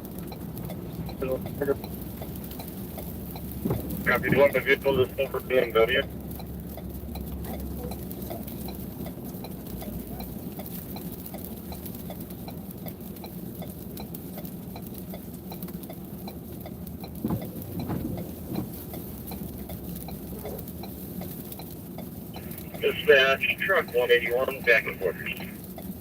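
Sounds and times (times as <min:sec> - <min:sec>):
idling engine hum: 0:00.0 - 0:26.0
turn signal clicking: 0:00.0 - 0:26.0.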